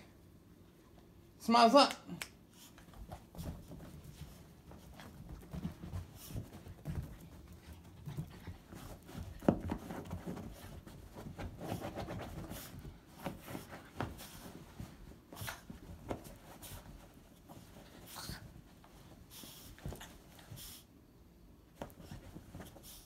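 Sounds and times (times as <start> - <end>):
dog rustling on blanket: 2.6 - 20.9, 21.7 - 23.0.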